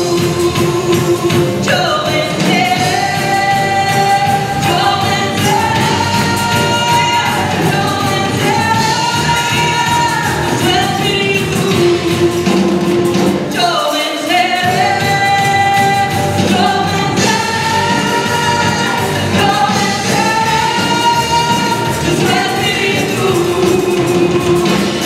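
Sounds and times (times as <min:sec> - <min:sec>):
band playing worship music: 0:00.0 - 0:25.0
singers holding long notes: 0:00.0 - 0:25.0.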